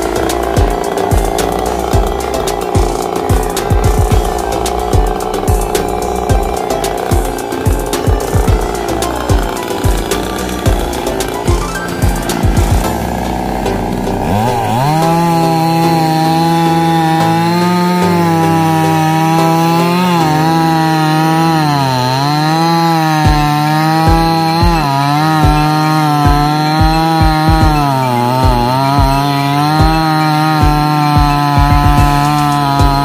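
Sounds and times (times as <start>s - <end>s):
chainsaw cutting log: 0.0s - 33.0s.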